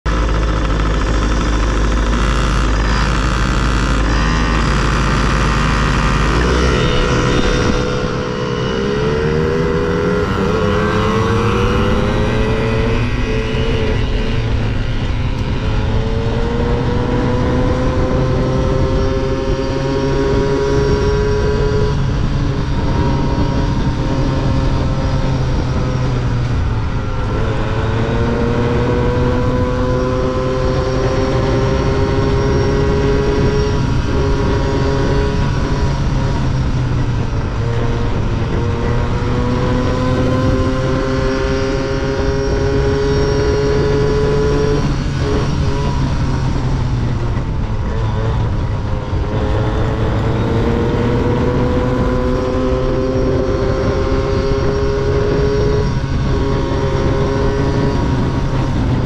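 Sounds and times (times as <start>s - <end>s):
dirt bike engine idling and revving: 0.0s - 59.0s.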